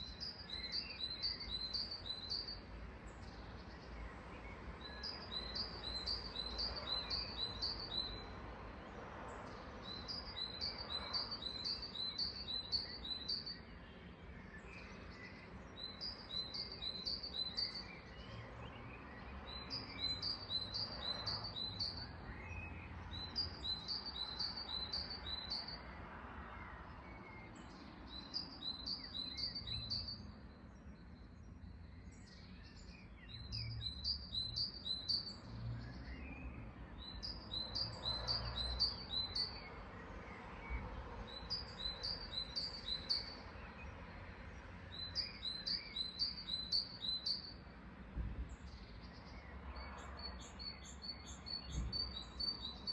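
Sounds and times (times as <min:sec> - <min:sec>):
songbird chirping: 0:00.0 - 0:52.9.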